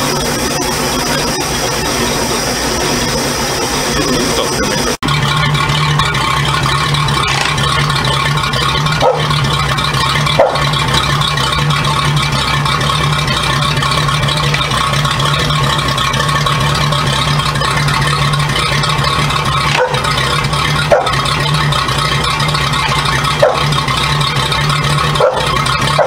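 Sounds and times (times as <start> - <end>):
motor humming and rattling: 0.0 - 26.0.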